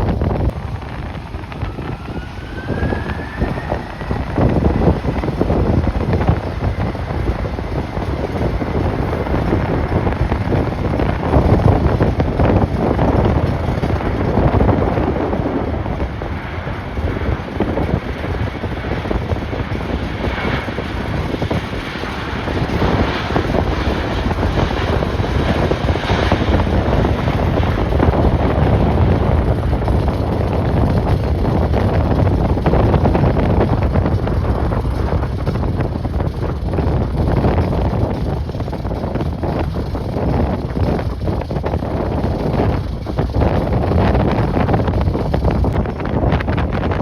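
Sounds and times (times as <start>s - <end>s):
faint engine whine: 0.0s - 47.0s
gusty wind buffeting microphone: 0.0s - 47.0s
jet airliner engines: 0.0s - 47.0s.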